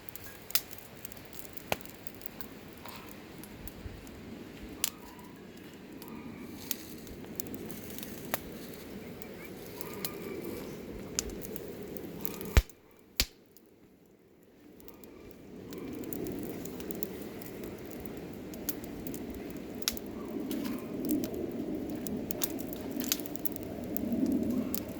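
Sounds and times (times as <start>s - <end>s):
campfire crackling and popping: 0.0s - 24.9s.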